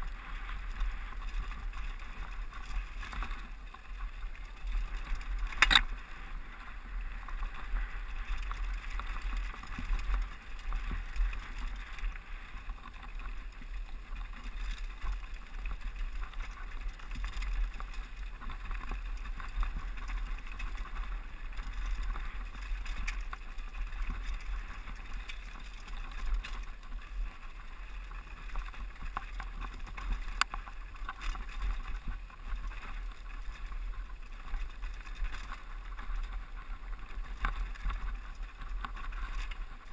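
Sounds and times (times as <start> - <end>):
bike rattling over rocks: 0.0 - 39.9.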